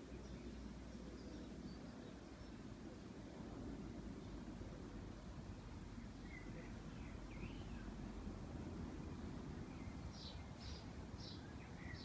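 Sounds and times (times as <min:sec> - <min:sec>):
faint birdsong: 0:00.0 - 0:12.0
low background rumble: 0:00.0 - 0:12.0.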